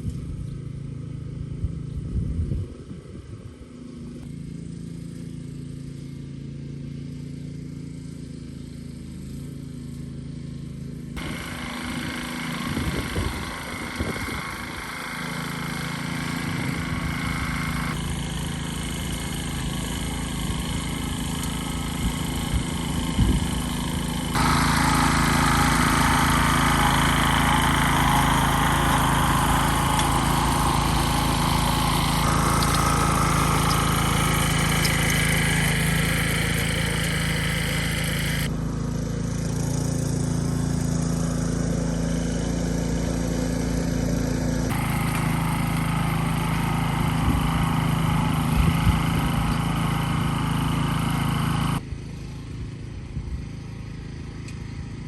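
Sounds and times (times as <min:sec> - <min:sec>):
farm machinery engine running: 0:03.9 - 0:55.0.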